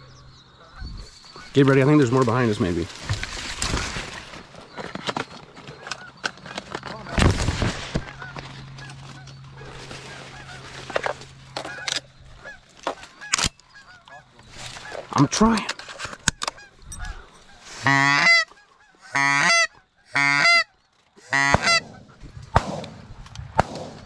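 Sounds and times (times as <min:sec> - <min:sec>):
geese honking: 0:00.3 - 0:22.5.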